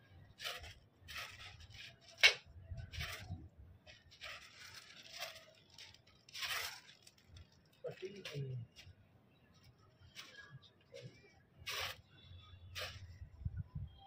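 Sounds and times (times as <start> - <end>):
paper kite rustling: 0.3 - 9.0, 9.6 - 13.4.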